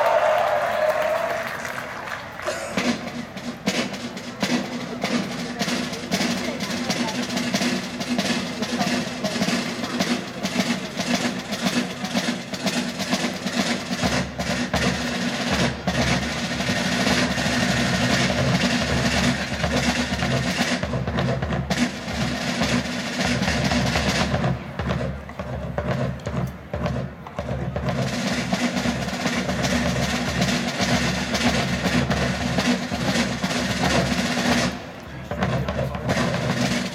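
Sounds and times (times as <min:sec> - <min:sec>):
military band playing: 0:00.0 - 0:36.9
rapid drumming: 0:00.0 - 0:36.9.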